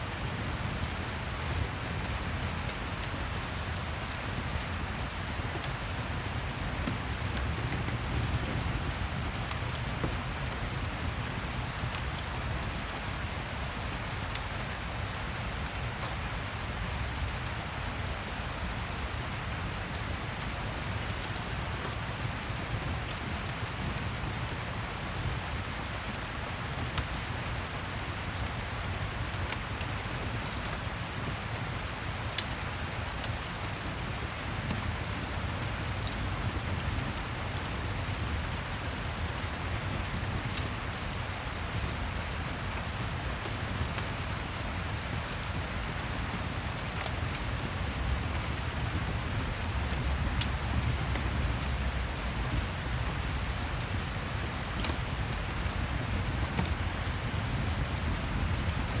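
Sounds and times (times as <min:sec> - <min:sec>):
steady rain: 0:00.0 - 0:59.0
fireplace crackling and popping: 0:00.1 - 0:59.0.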